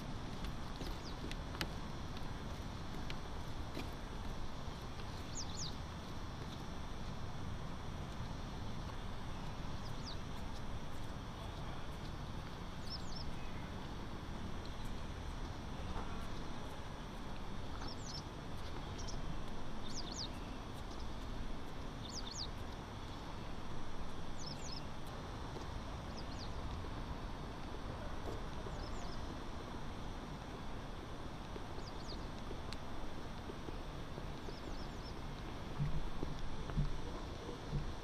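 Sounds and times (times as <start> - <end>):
small birds chirping: 0.0 - 7.2, 8.8 - 38.0
city noise hum: 0.0 - 38.0.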